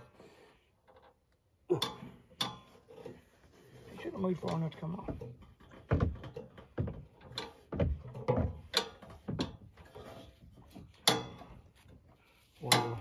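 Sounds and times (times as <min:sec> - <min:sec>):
metal parts and wrenches clanking: 0:00.8 - 0:13.0.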